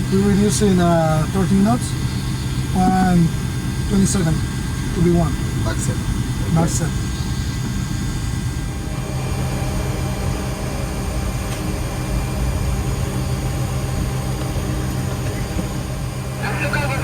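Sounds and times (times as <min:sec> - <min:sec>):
aircraft cockpit engine hum: 0:00.0 - 0:17.0
faint steady whines: 0:00.0 - 0:17.0.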